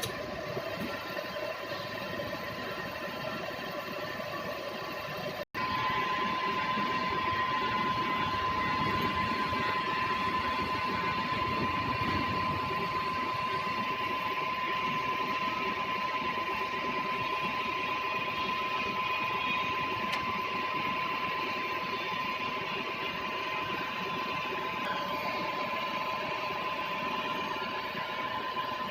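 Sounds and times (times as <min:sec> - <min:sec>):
milling machine whining: 0:00.0 - 0:28.9.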